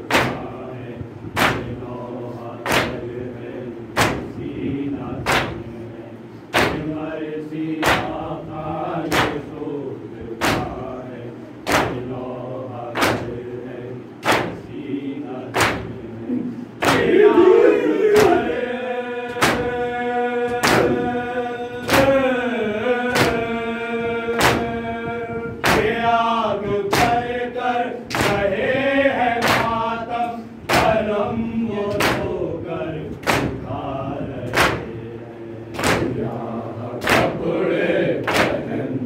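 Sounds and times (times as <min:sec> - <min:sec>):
men beating chests in unison: 0:00.0 - 0:02.0, 0:02.6 - 0:03.3, 0:03.9 - 0:05.8, 0:06.5 - 0:09.6, 0:10.3 - 0:35.1, 0:35.7 - 0:38.9
voices chanting: 0:00.0 - 0:39.0.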